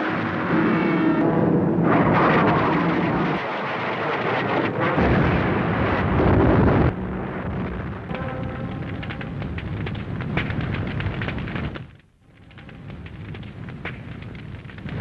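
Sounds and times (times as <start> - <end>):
crackle: 0.0 - 15.0
rolling explosions: 0.0 - 15.0.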